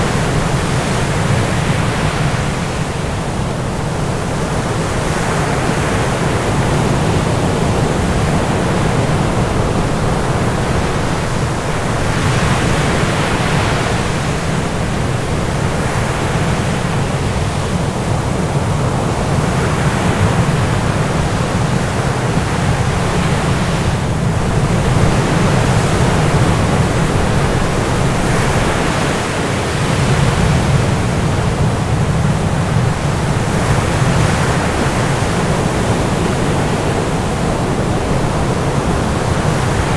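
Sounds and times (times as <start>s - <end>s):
loud steady rushing noise: 0.0s - 39.9s.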